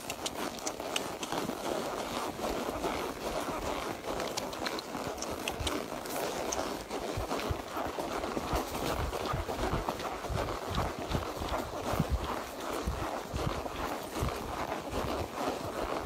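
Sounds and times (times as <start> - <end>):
horse hoofbeats: 0.0 - 16.0.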